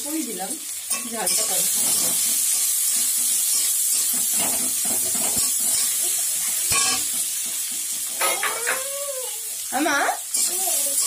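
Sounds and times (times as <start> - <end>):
vegetables sizzling in hot oil: 0.0 - 11.0
metal spatula scraping a pan: 0.8 - 8.9, 9.9 - 11.0.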